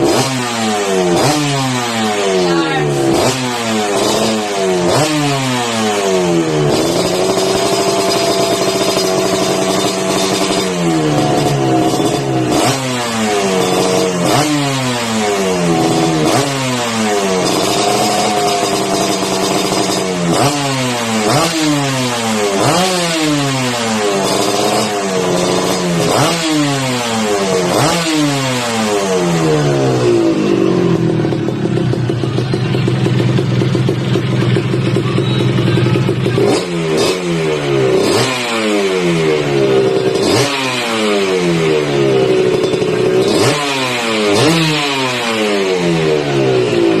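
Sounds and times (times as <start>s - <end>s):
two-stroke engine revving and idling: 0.0s - 47.0s.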